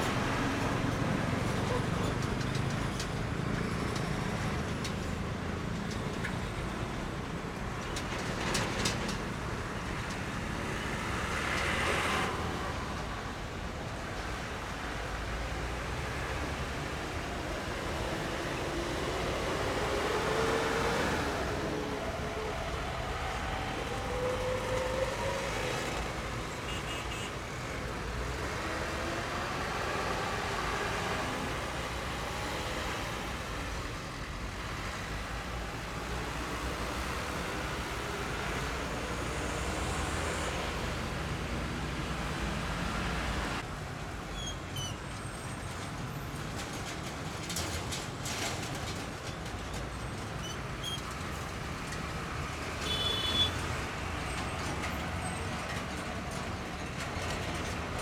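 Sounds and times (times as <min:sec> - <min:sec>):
idling traffic: 0:00.0 - 0:58.0.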